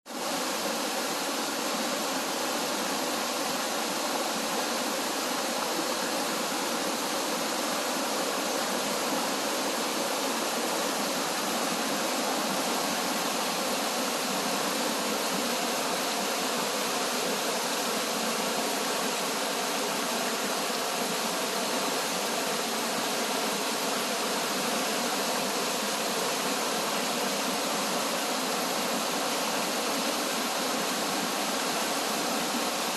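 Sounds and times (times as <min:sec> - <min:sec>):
stream rushing over rocks: 0:00.1 - 0:32.9.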